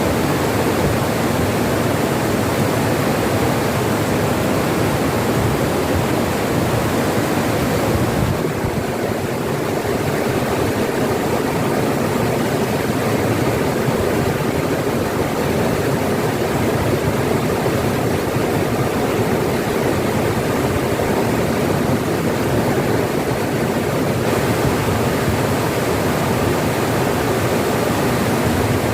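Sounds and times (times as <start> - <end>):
stream water rushing: 0.0 - 28.9.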